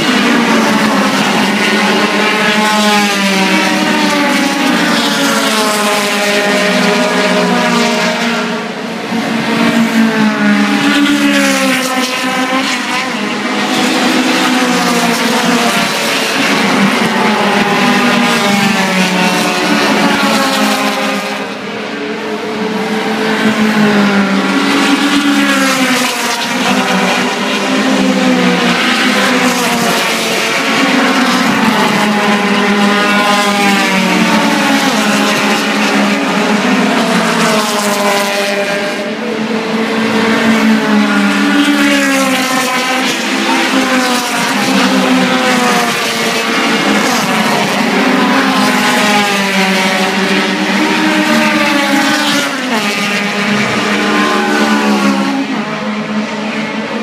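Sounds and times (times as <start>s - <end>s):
race cars passing at speed: 0.0s - 57.0s.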